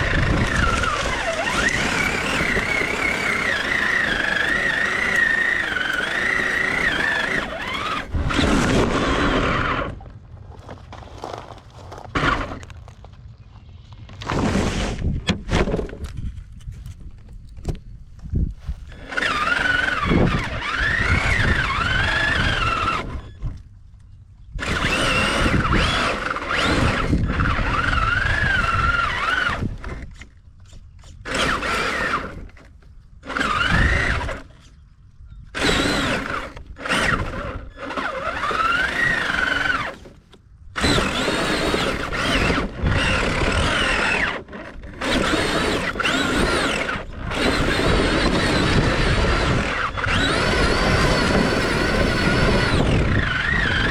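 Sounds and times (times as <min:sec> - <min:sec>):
electric motor whine: 0:00.0 - 0:10.2, 0:18.5 - 0:23.6, 0:24.6 - 0:53.9
gears and tyres rattling: 0:00.0 - 0:53.9.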